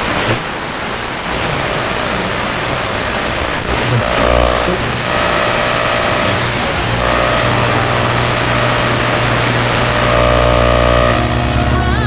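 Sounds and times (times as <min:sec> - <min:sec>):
interference buzz with low hum: 0:00.0 - 0:12.0
radio static hiss: 0:00.0 - 0:12.0.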